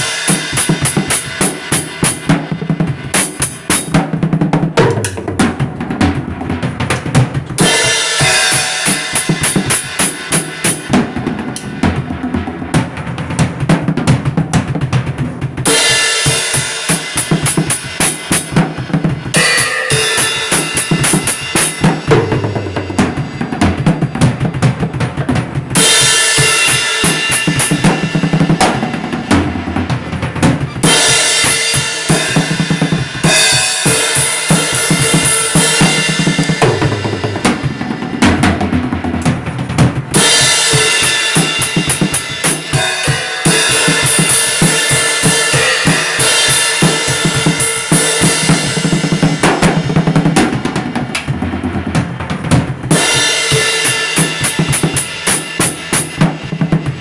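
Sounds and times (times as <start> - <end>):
drum-driven music: 0.0 - 57.0.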